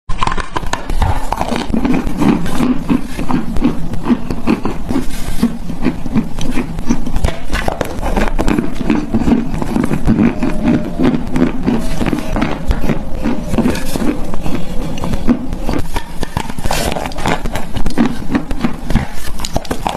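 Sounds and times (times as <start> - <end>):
chalk being chewed: 0.2 - 19.9.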